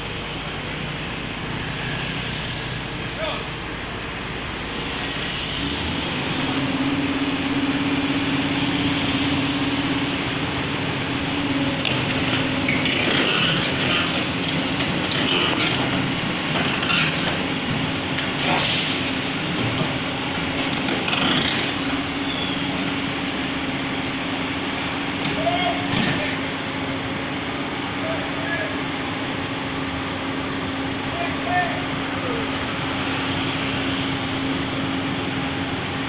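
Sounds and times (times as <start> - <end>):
knocks and hisses of tracks: 0.0 - 31.0
diesel excavator engine: 0.0 - 36.0.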